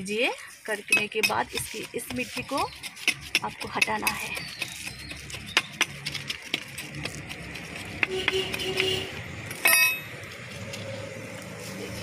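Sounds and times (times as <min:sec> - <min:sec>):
hand tool scraping soil: 0:00.0 - 0:12.0.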